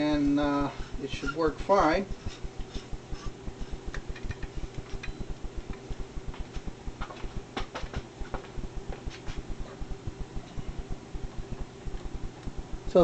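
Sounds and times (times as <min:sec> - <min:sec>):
ballast low hum: 0:00.0 - 0:13.0.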